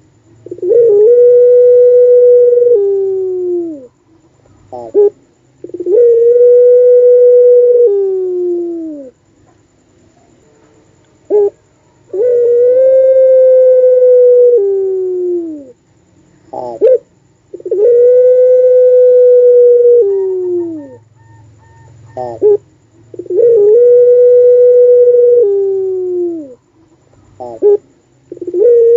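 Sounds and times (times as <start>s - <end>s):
dove cooing: 0.0s - 9.2s, 11.3s - 15.8s, 16.4s - 28.9s.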